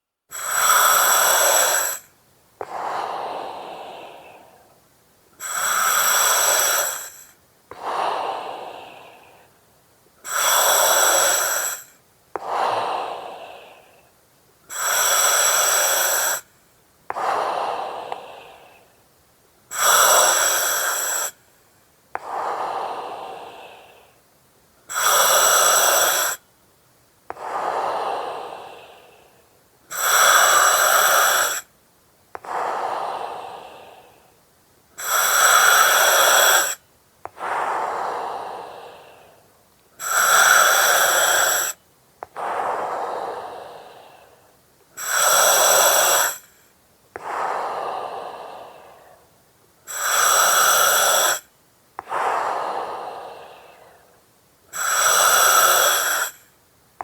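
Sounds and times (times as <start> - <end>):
breathing through oxygen mask: 0.3 - 4.8, 5.4 - 9.6, 10.2 - 14.1, 14.7 - 16.5, 17.1 - 18.9, 19.7 - 21.4, 22.2 - 24.2, 27.3 - 31.7, 32.4 - 34.3, 35.0 - 49.3, 49.9 - 56.5.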